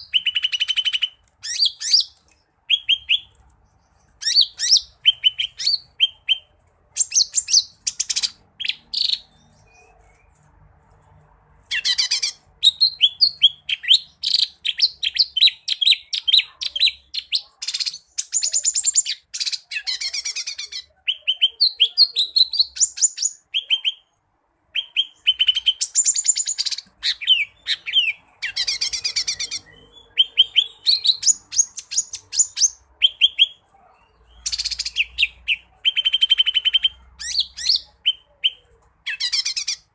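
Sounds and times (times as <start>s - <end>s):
bird singing chirps and trills: 0.0s - 10.4s, 11.7s - 24.1s, 24.8s - 39.9s.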